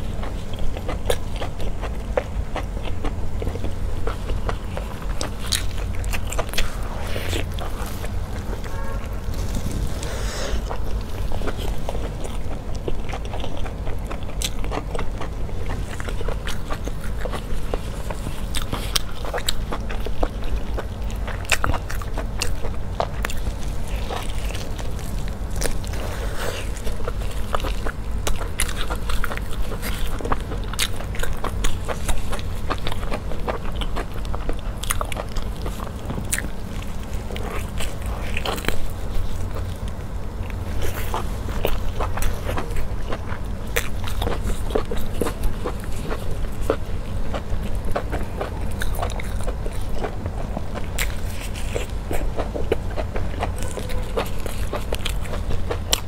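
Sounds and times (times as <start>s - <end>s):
chewing and biting food: 0.0s - 56.0s
low hum: 0.0s - 56.0s.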